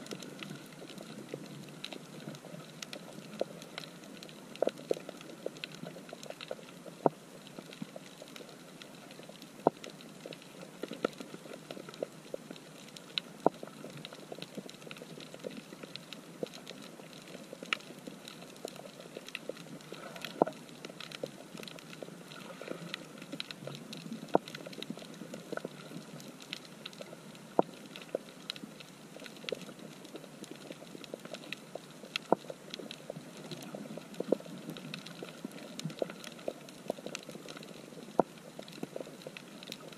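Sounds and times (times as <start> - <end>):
snapping shrimp crackle: 0.1 - 39.9.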